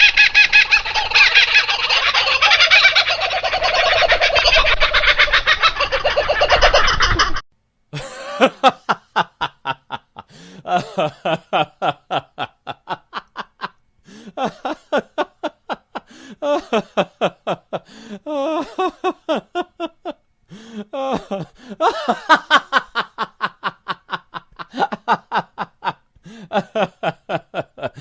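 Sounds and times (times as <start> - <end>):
person laughing: 0.4 - 7.4, 8.0 - 28.0.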